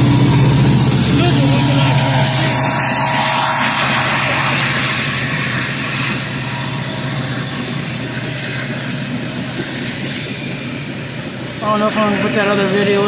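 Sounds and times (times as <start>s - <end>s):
train rumble: 0.0s - 13.0s
wheels rattling on rails: 0.0s - 13.0s.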